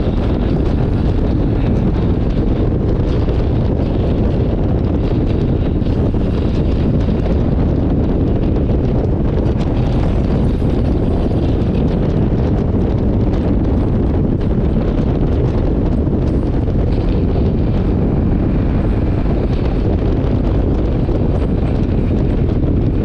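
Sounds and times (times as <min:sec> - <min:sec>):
motorcycle engine and road rumble: 0:00.0 - 0:23.0
wind buffeting microphone: 0:00.0 - 0:23.0.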